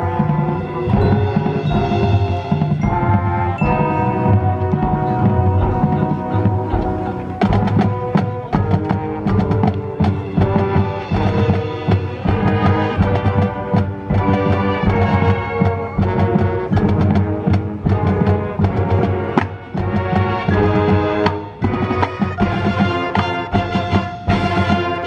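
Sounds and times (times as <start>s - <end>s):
sharp percussion strikes: 0.0s - 24.8s
drums: 0.0s - 25.0s
held brass chords: 0.0s - 25.0s
mallet percussion: 0.0s - 25.0s.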